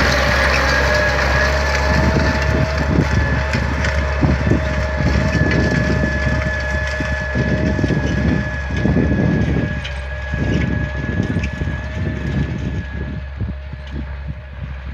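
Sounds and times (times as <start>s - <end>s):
tractor diesel engine running: 0.0s - 14.9s
wind buffeting microphone: 0.0s - 14.9s.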